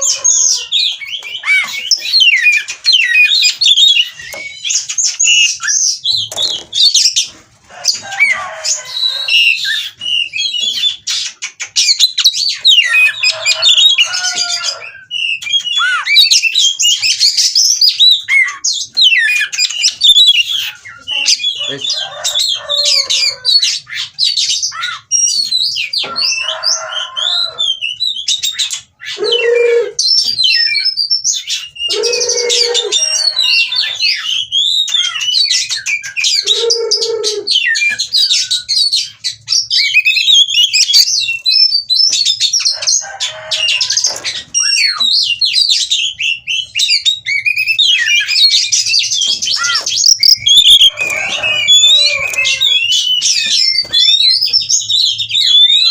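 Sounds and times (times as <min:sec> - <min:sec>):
magpie-robin singing: 0:00.0 - 0:55.9.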